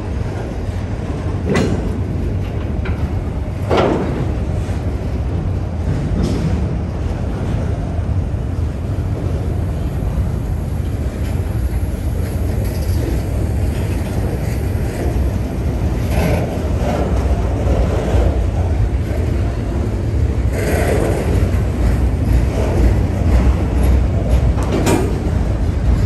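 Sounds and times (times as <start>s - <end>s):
freight train rumbling past: 0.0s - 26.0s
metallic rattle of train: 0.0s - 26.0s.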